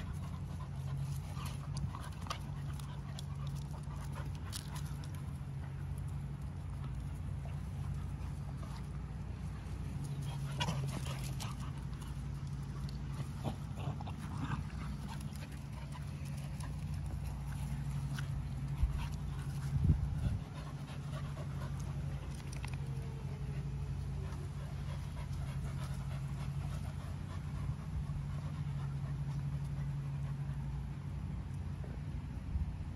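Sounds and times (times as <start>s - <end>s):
dogs scuffling on grass: 0.0s - 30.1s
steady low hum: 0.0s - 32.9s.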